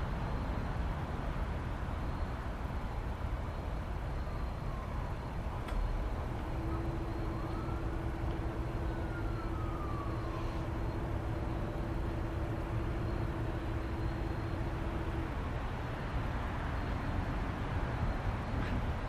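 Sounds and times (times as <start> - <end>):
outdoor background rumble: 0.0 - 19.0
distant siren wailing: 3.2 - 19.0.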